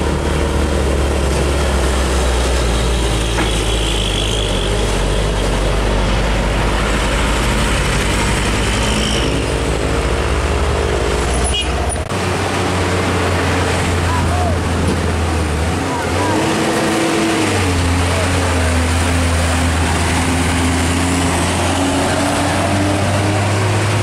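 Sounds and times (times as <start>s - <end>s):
diesel trucks driving past: 0.0s - 24.0s
road traffic: 0.0s - 24.0s.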